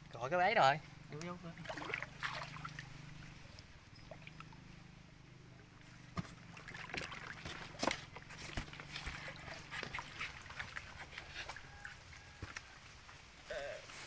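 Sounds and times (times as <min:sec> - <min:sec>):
water sloshing and splashing: 0:01.2 - 0:13.5.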